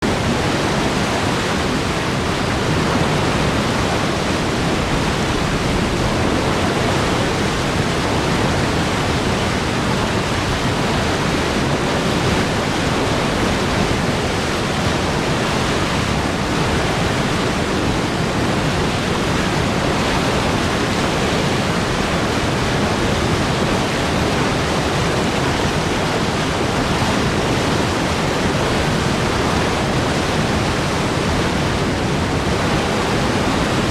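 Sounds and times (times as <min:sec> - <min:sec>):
water rushing: 0:00.0 - 0:33.9.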